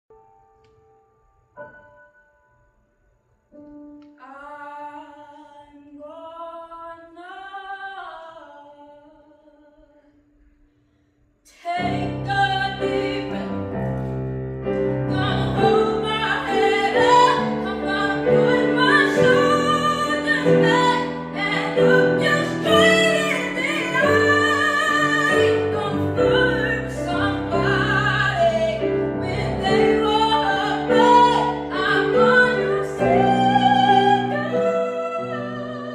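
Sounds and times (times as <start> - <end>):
woman singing a ballad: 4.2 - 10.2, 11.5 - 14.0, 15.1 - 35.9.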